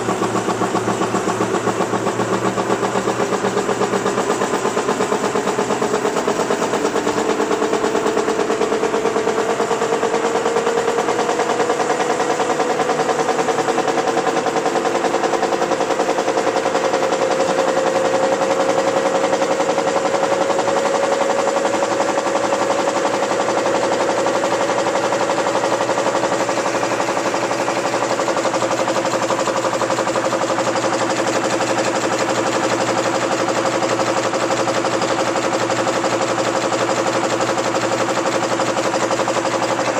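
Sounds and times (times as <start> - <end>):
machine mechanical clatter: 0.0 - 39.9.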